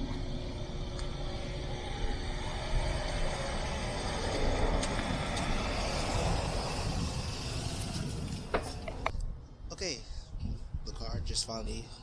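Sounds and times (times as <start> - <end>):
car engine low rumble: 0.0 - 9.7.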